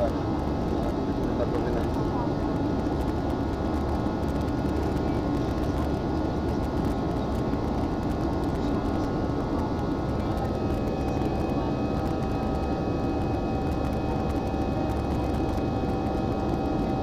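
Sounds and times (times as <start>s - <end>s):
faint steady whine: 0.0s - 17.0s
jet engine cabin rumble: 0.0s - 17.0s.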